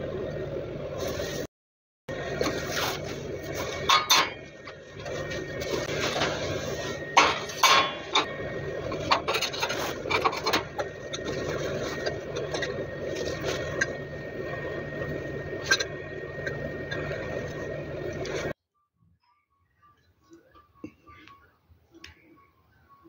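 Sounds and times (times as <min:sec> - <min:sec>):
background hum: 0:02.1 - 0:23.0.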